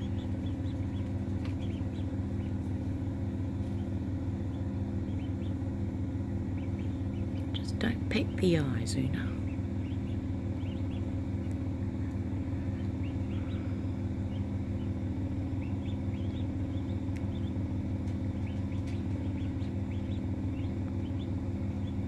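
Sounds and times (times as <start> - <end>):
ducklings peeping: 0.0 - 22.0
incubator humming: 0.0 - 22.0.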